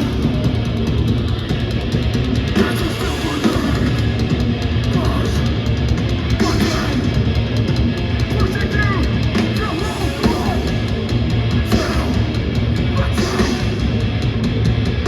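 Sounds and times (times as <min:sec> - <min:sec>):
heavy metal music: 0:00.0 - 0:15.0.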